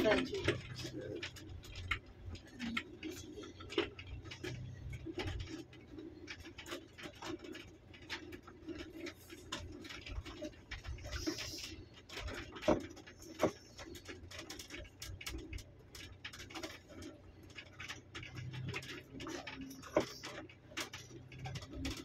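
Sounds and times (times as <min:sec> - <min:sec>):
stones crackling under tyres: 0:00.0 - 0:22.0.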